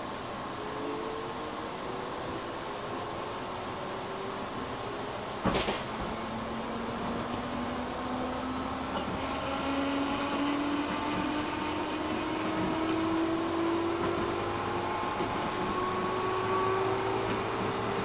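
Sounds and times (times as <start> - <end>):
train running noise: 0.0 - 18.0.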